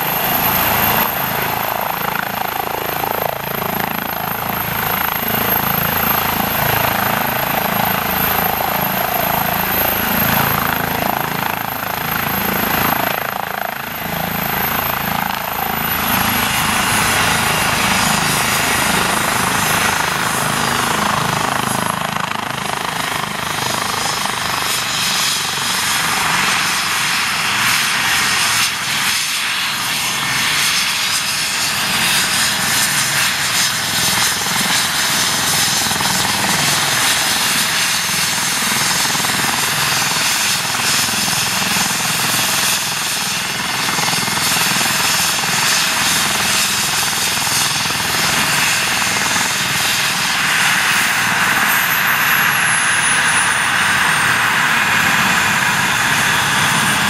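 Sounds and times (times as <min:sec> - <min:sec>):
helicopter rotor churning: 0:00.0 - 0:57.0
helicopter turbine whine: 0:00.0 - 0:57.0.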